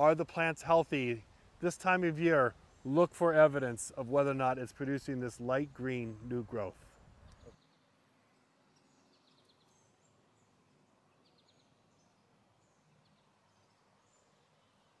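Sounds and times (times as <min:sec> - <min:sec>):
distant bird chirps and trills: 0:01.2 - 0:05.4, 0:06.0 - 0:15.0.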